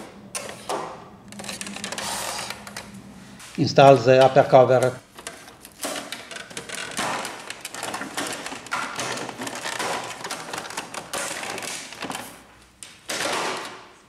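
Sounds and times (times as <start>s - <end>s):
plastic scraping on plastic: 0.0s - 12.5s.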